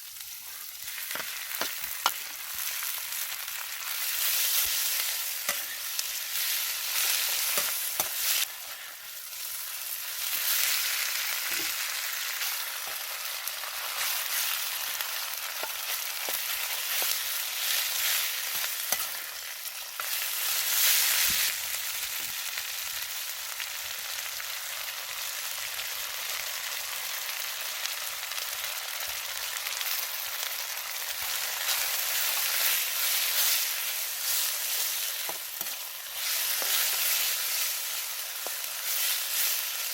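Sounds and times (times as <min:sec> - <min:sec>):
food sizzling in a wok: 0:00.0 - 0:39.9.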